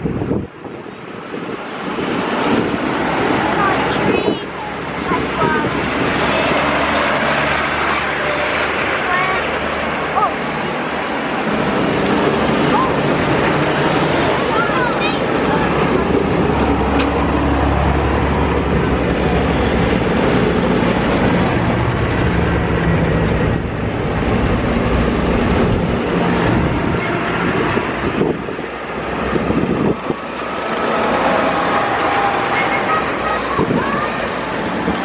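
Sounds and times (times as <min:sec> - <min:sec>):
tractors and lorries driving past: 0:00.0 - 0:35.0.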